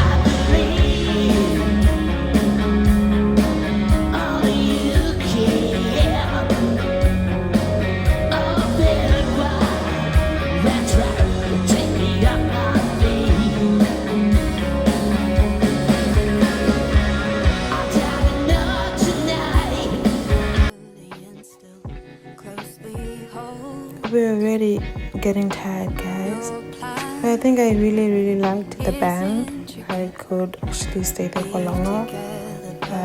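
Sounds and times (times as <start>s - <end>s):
person singing: 0.0s - 2.6s, 3.8s - 14.9s, 16.0s - 33.0s
drums keeping a steady beat: 0.0s - 20.7s, 24.8s - 26.3s, 27.0s - 29.2s, 29.9s - 32.1s
live rock band: 0.0s - 21.3s, 21.9s - 33.0s.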